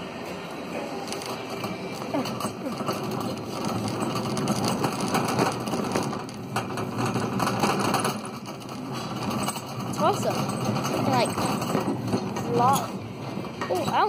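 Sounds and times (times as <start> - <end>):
shopping cart rattling: 0.9 - 14.0.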